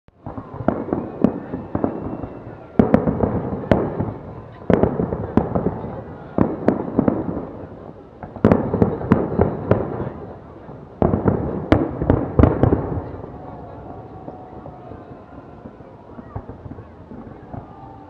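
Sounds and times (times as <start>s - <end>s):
fireworks bangs with echoes: 0.2s - 18.0s.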